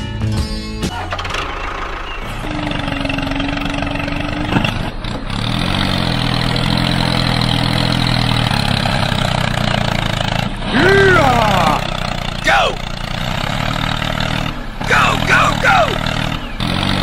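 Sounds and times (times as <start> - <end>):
tractor engine revving: 0.8 - 17.0.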